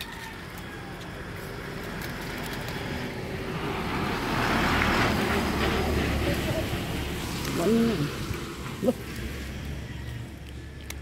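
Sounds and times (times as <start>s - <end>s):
large vehicle engine rumble: 0.0s - 11.0s
road noise: 0.0s - 11.0s.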